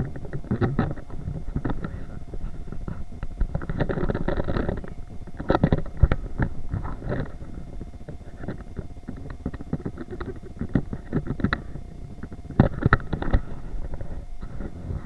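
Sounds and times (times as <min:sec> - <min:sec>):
camera handling rumble and rubbing: 0:00.0 - 0:15.0.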